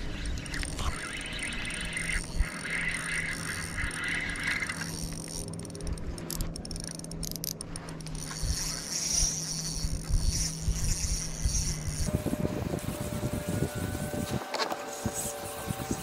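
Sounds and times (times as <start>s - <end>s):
fishing reel whirring: 0.0s - 14.1s.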